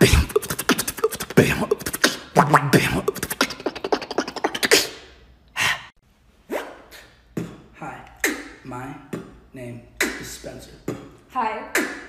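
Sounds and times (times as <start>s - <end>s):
man beatboxing: 0.0s - 5.8s, 6.5s - 12.0s.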